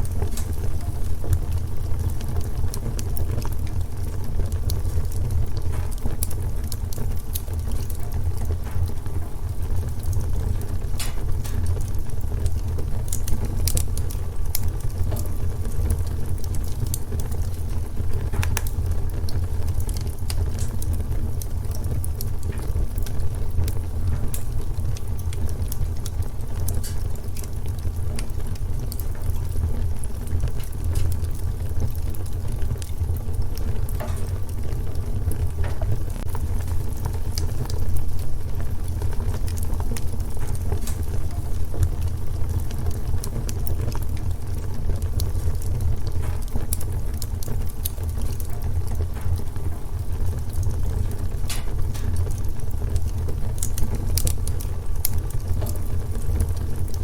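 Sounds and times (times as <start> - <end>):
low rumble of fire: 0.0 - 57.0
wood fire crackling and popping: 0.0 - 57.0.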